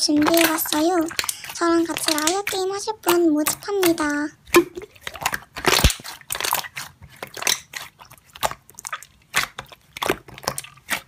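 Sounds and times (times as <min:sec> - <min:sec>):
slime crackling and popping: 0:00.0 - 0:11.0.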